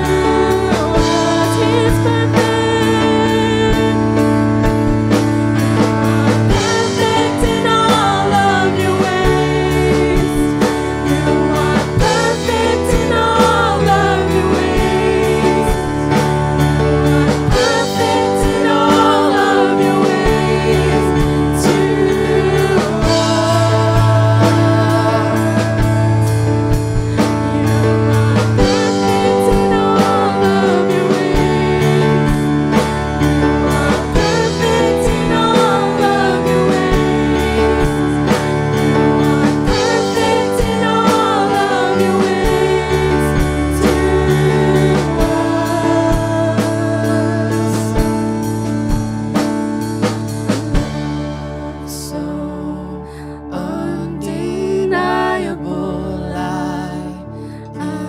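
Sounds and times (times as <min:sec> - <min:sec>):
women singing worship song: 0:00.0 - 0:49.0, 0:50.5 - 0:58.0
drum kit: 0:00.0 - 0:52.2
keyboard: 0:00.0 - 0:58.0.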